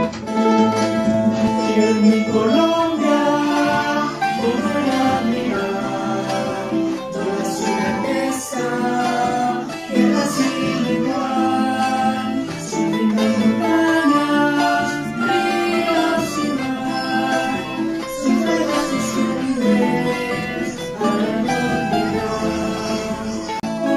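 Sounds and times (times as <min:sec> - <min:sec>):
plucked strings ensemble: 0:00.0 - 0:23.9.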